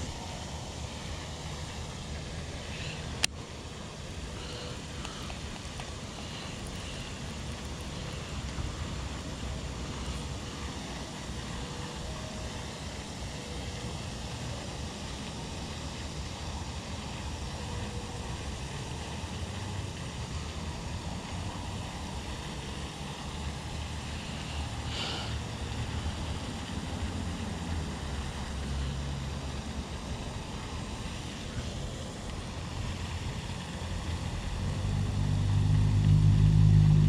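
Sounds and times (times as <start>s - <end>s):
faint hiss: 0.0s - 37.0s
loud low hum: 0.0s - 37.0s
low outdoor rumble: 0.0s - 37.0s.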